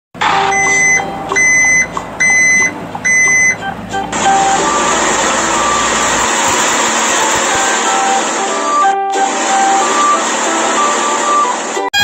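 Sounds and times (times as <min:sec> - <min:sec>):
diesel engine humming: 0:00.2 - 0:11.8
loud electronic beeps: 0:00.2 - 0:12.0.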